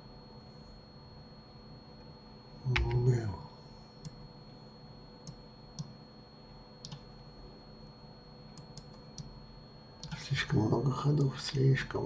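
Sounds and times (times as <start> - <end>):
constant high-pitched tone: 0.0 - 12.0.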